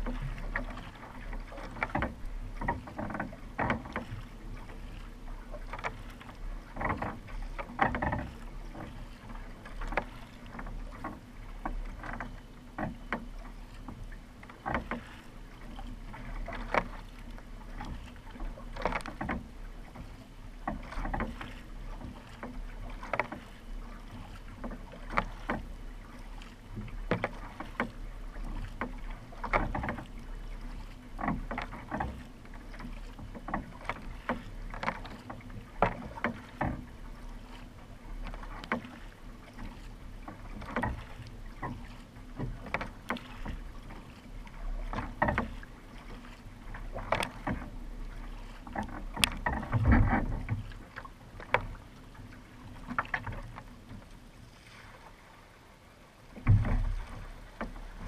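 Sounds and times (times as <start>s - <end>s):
paddle strokes in water: 0.0s - 58.0s
water washing along hull: 0.0s - 58.0s.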